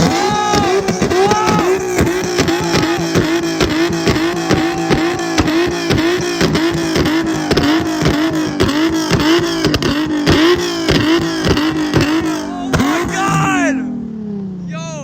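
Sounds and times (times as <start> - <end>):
exhaust pops and crackles: 0.0 - 13.6
car engine on rev limiter: 0.0 - 14.7.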